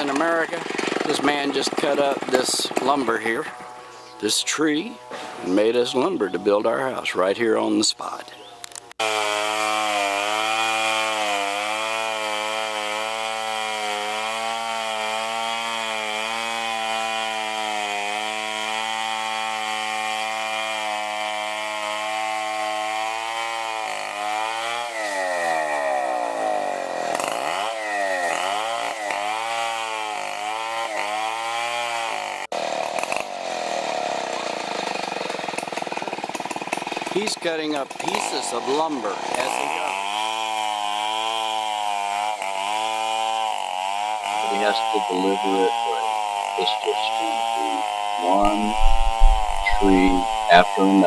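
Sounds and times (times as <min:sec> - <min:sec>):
chainsaw cutting log: 0:00.0 - 0:05.9, 0:08.7 - 0:51.0.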